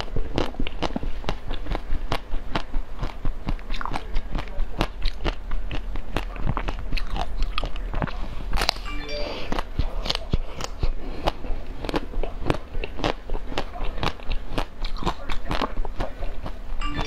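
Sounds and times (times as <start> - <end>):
chewing crunchy chocolate cake: 0.0 - 8.9, 9.5 - 16.9.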